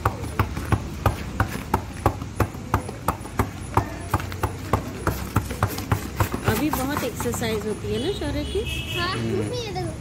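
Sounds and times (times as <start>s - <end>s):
sharp rhythmic taps: 0.0s - 8.4s.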